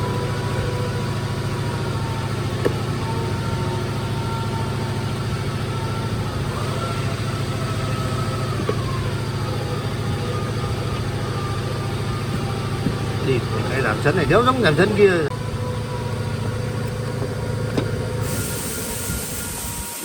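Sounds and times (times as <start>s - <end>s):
machine motor hum and whine: 0.0s - 20.0s.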